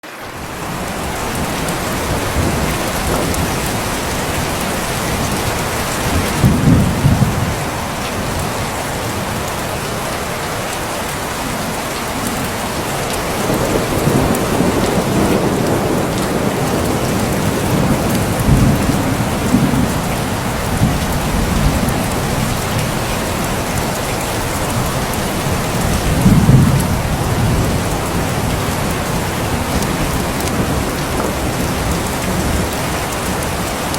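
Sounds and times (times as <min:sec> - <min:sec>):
steady rain falling: 0:00.0 - 0:33.9
thunder rumbling: 0:00.3 - 0:10.5, 0:11.6 - 0:33.9.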